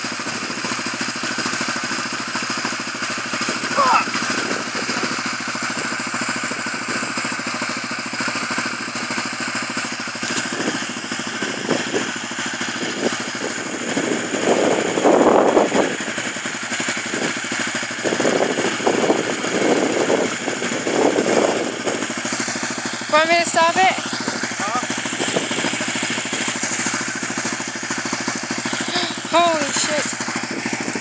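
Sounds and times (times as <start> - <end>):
atv engine running: 0.0 - 31.0.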